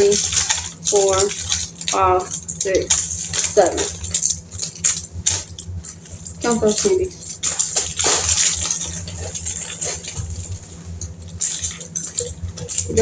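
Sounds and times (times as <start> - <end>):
candy wrappers crinkling: 0.0 - 13.0
low hum: 0.0 - 13.0.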